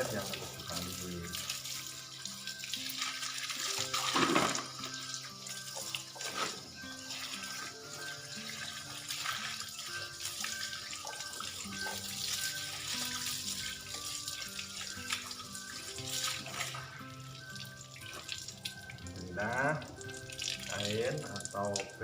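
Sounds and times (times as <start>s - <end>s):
slow background music: 0.0s - 22.0s
water splashing hand washing: 0.0s - 22.0s.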